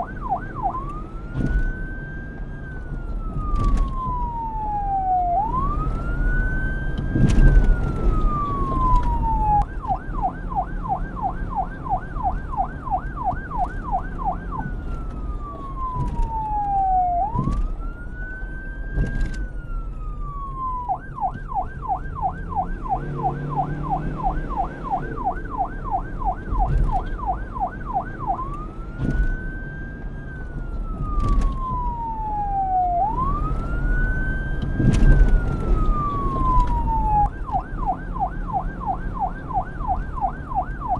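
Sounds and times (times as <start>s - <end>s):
low rumble of wind: 0.0s - 40.9s
police siren wailing and yelping: 0.0s - 40.9s
traffic rumble: 0.0s - 40.9s.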